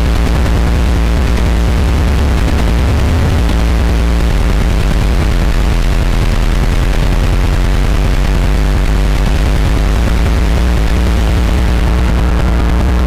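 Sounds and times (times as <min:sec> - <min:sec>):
electronic noise music: 0:00.0 - 0:13.0.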